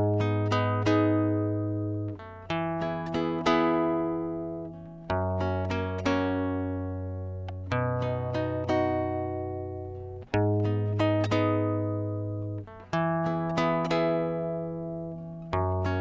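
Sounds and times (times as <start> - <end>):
plucked guitar-like notes: 0.0 - 16.0.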